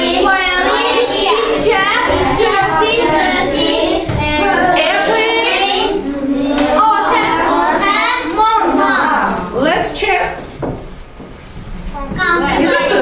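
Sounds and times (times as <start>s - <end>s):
children speaking in chorus: 0.0s - 9.6s, 12.0s - 13.0s.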